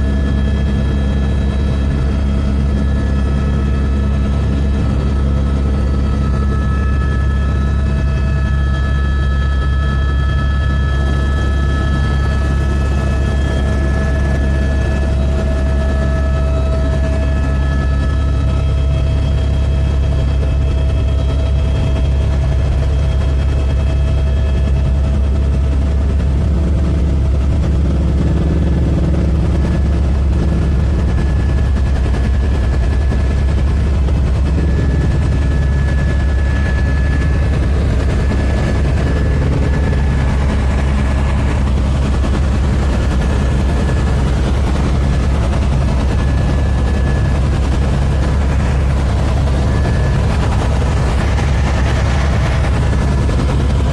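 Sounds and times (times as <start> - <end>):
helicopter rotor thrum: 0.0 - 53.9.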